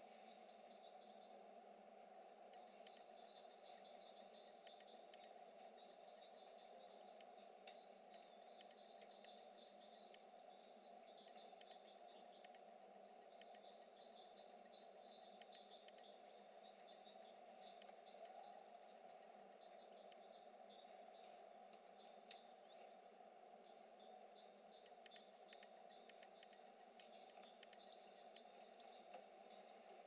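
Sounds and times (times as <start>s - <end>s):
constant low hiss: 0.0s - 30.0s
small birds chirping: 0.0s - 30.0s.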